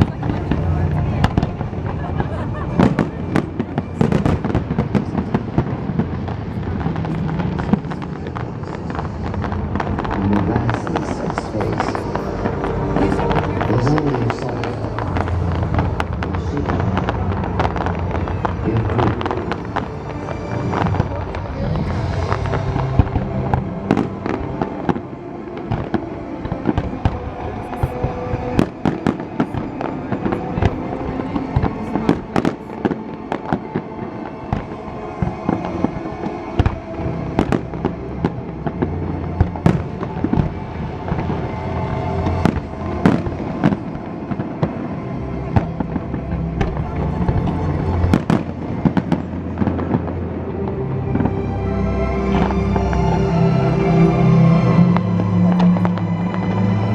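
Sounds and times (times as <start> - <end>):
fireworks bangs and crackles: 0.0 - 50.5.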